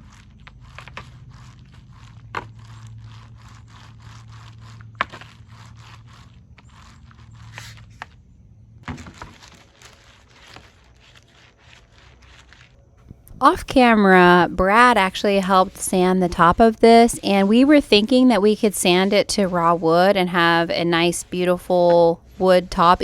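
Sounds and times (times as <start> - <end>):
foam roller scratchy strokes: 0.0 - 8.2, 8.8 - 12.8, 13.4 - 23.0
low steady hum: 0.0 - 23.0.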